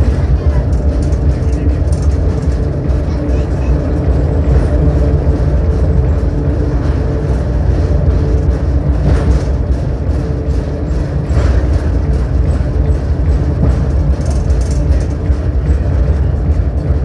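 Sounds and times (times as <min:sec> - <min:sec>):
cable car rumble: 0:00.0 - 0:17.0
humming tones: 0:00.0 - 0:17.0.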